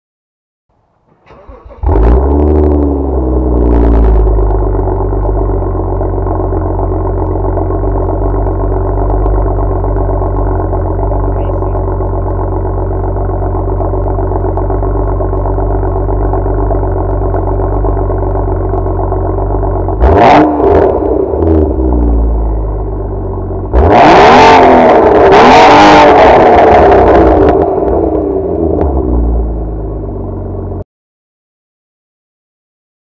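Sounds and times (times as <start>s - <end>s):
car engine starting and idling: 0.8s - 30.8s
car engine cranking: 1.1s - 29.0s.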